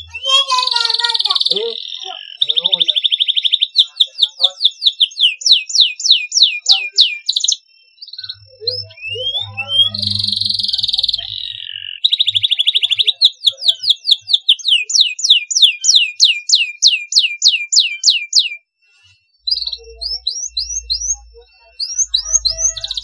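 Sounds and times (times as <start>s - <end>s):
canary singing: 0.0s - 23.0s.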